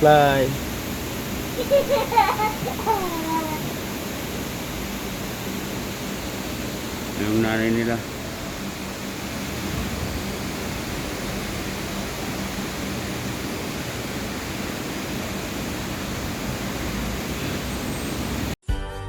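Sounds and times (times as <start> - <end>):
broad background hiss: 0.0 - 18.6.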